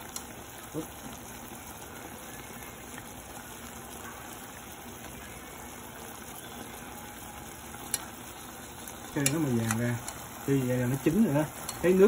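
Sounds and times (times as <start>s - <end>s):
pot of liquid simmering: 0.0s - 12.0s.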